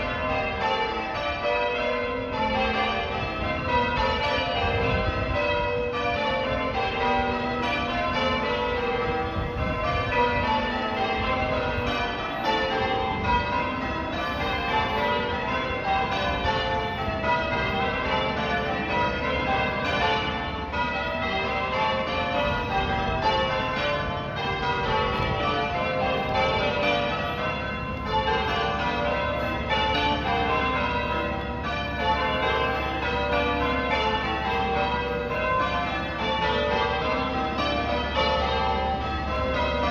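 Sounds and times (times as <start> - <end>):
church bells ringing changes: 0.0 - 39.9.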